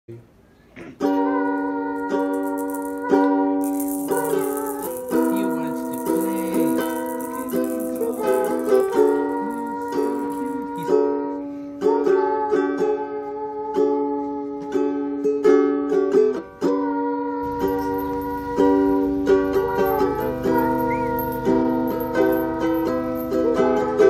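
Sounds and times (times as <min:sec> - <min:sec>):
bouncy plucked-string tune: 0:01.0 - 0:13.2, 0:14.6 - 0:24.0.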